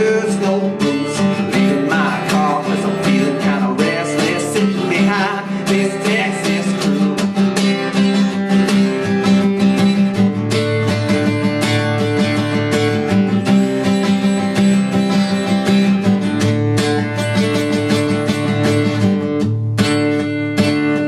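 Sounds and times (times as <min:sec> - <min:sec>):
country band playing: 0:00.0 - 0:19.1
acoustic guitar strumming: 0:00.0 - 0:21.0.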